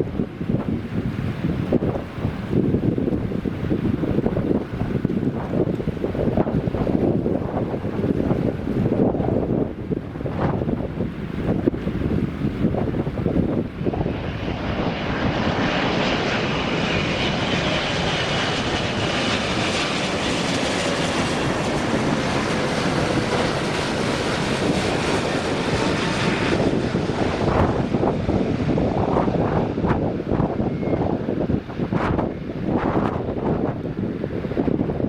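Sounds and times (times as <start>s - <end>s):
jet airliner passing: 0.0s - 35.0s
wind on microphone: 0.0s - 35.0s.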